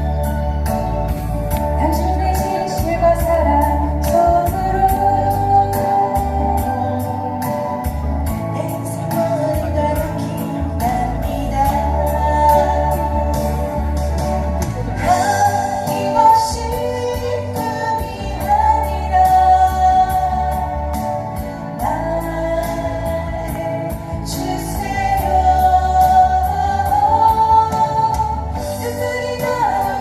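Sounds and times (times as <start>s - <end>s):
bass and beat backing: 0.0s - 30.0s
guitar: 0.0s - 30.0s
woman singing: 1.8s - 14.1s, 15.0s - 30.0s.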